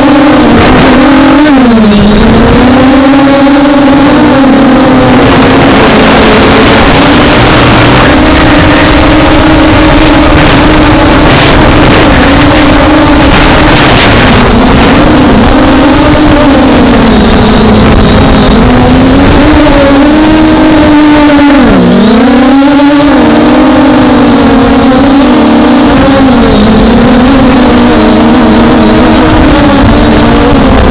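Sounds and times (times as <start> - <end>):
drone propellers whining: 0.0 - 30.9
rushing wind noise: 0.0 - 30.9.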